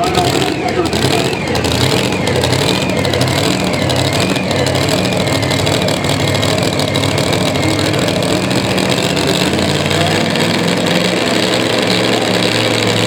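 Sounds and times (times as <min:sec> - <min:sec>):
engine running hard under load: 0:00.0 - 0:13.0.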